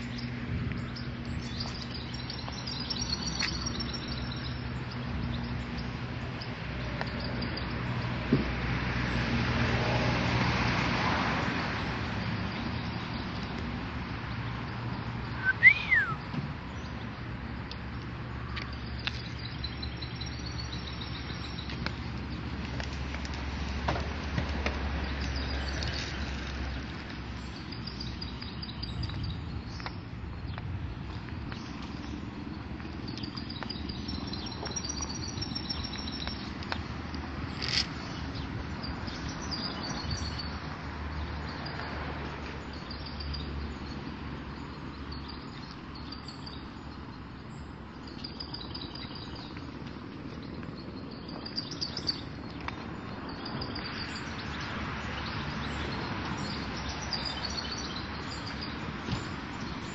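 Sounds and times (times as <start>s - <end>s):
small birds chirping: 0.0s - 8.0s, 11.8s - 23.8s, 24.5s - 59.9s.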